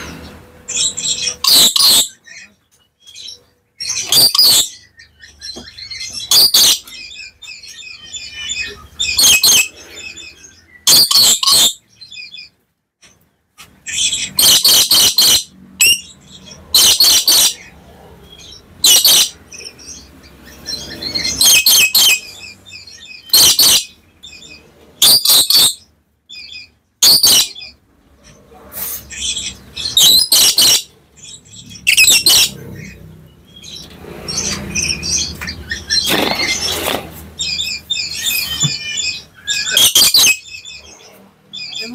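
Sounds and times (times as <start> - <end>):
soft bird chattering: 0.7 - 12.5, 13.9 - 41.9.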